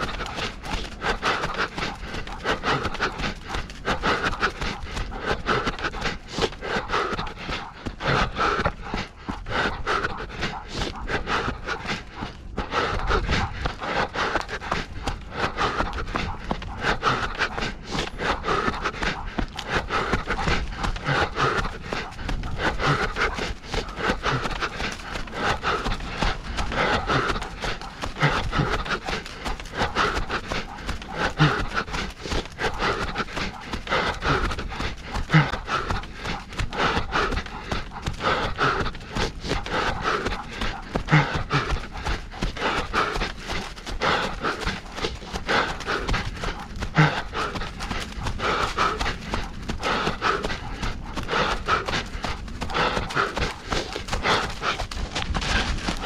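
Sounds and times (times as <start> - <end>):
runner breathing hard: 0.0 - 56.0
running footsteps: 0.0 - 56.0.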